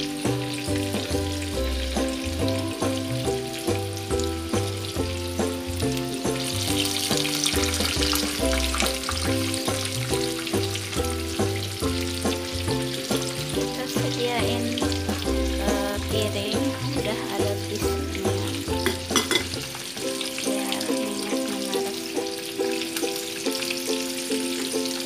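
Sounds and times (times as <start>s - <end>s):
music with rhythmic bass line: 0.0s - 20.3s
food deep-frying in oil: 0.0s - 25.0s.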